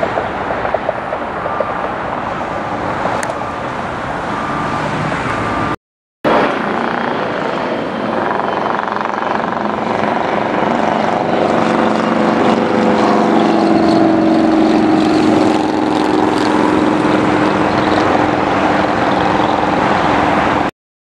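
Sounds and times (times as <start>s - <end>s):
aircraft engines running: 0.0s - 20.7s.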